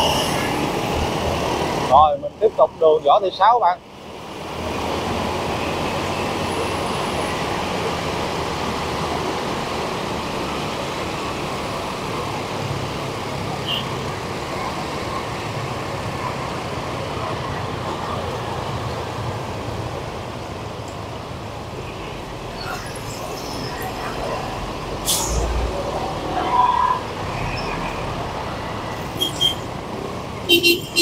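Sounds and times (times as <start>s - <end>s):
street traffic engines: 0.0s - 31.0s.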